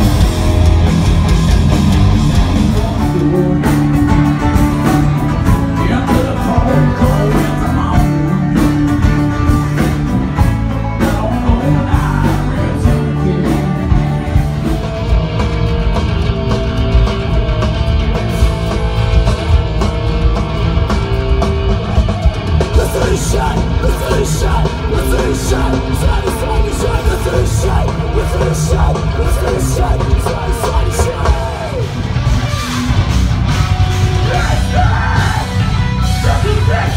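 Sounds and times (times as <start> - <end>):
heavier rock band playing: 0.0 - 36.9
live rock band playing: 0.0 - 36.9.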